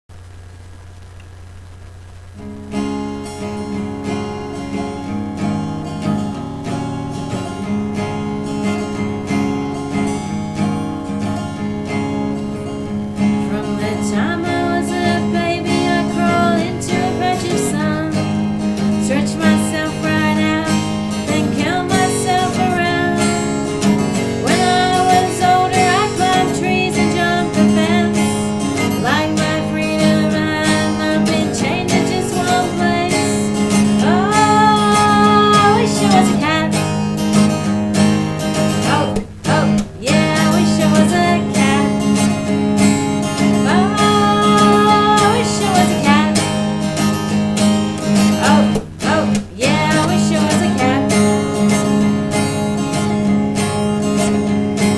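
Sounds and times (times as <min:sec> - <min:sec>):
acoustic guitar strumming: 0:00.2 - 0:54.9
sliding guitar melody: 0:01.0 - 0:54.9.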